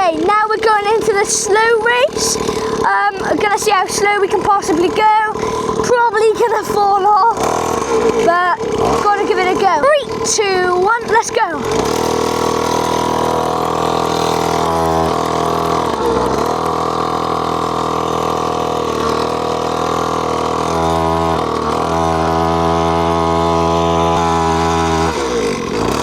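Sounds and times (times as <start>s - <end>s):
small dirt bike engine idling: 0.0s - 26.0s.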